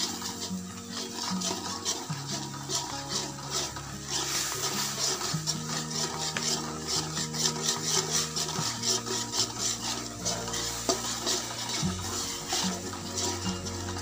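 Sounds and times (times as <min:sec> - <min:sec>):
background music: 0:00.0 - 0:14.0
metal spoon scraping a wok: 0:00.0 - 0:14.0.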